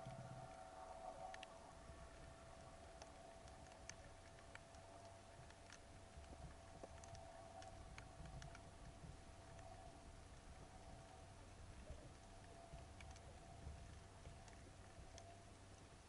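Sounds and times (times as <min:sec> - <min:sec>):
underwater sharp clicks: 0:00.0 - 0:10.0, 0:10.6 - 0:15.9
faint steady hum: 0:00.0 - 0:16.0
low rumble: 0:00.0 - 0:16.0.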